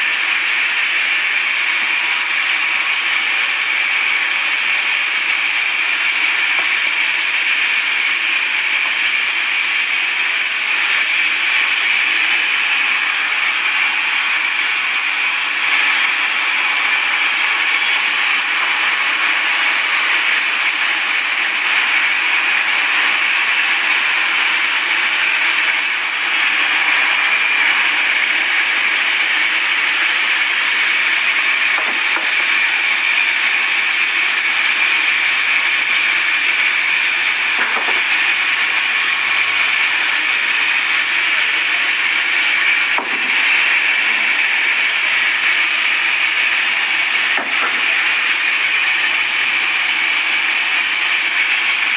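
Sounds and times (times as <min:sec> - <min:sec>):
sawmill blade cutting wood: 0:00.0 - 0:51.9.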